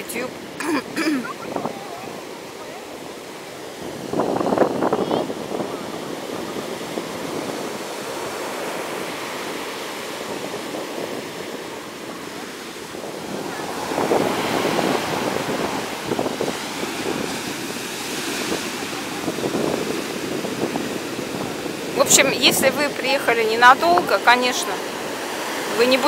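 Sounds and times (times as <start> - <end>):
surf breaking on beach: 0.0 - 26.0
wind on microphone: 0.0 - 26.0.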